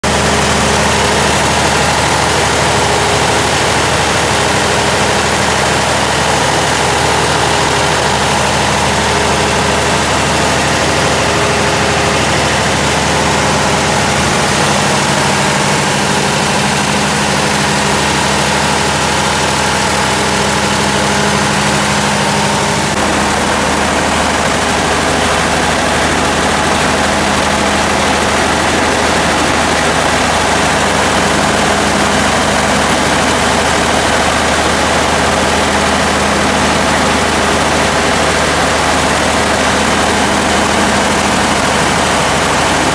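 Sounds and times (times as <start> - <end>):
diesel engine running steadily: 0.0 - 42.9.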